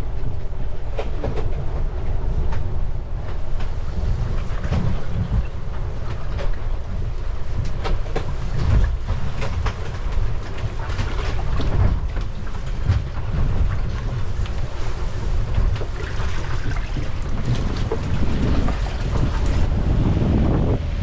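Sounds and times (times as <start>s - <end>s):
boat gear knocking and rattling: 0.0s - 19.7s
wind buffeting microphone: 0.0s - 21.0s.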